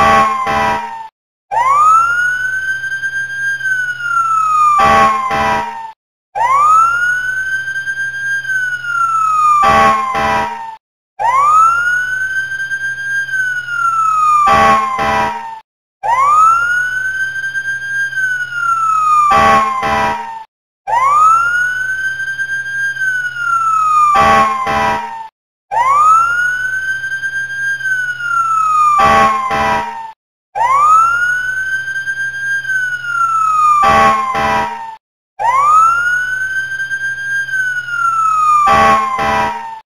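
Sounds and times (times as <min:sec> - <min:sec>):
emergency vehicle siren wailing: 0:00.0 - 0:39.8
short siren blasts: 0:00.0 - 0:39.8.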